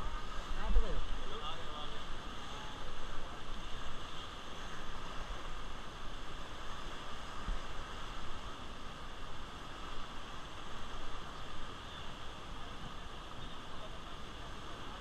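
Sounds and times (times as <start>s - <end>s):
choppy river water rushing: 0.0s - 15.0s
wind rumble on microphone: 0.0s - 15.0s.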